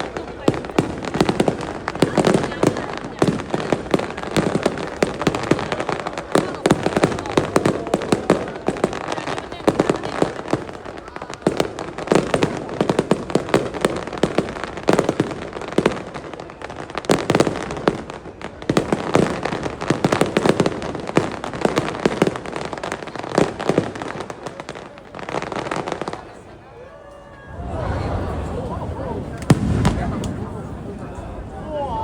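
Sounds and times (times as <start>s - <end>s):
aerial fireworks bursting: 0.0s - 26.7s, 27.3s - 31.9s.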